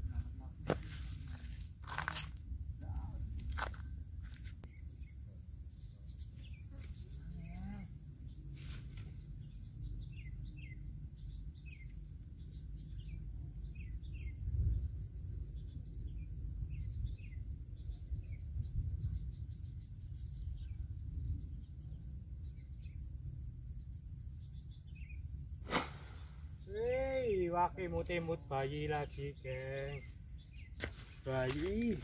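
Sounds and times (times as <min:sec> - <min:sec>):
faint insect trill: 0:00.0 - 0:32.0
high insect whine: 0:00.1 - 0:32.0
bird chirping: 0:04.6 - 0:32.0.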